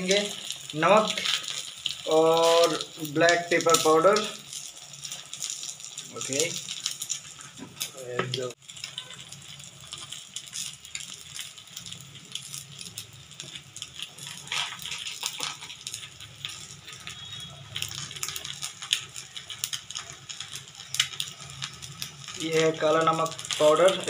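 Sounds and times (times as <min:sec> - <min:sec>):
eggs frying with crackles and pops: 0:00.0 - 0:24.0.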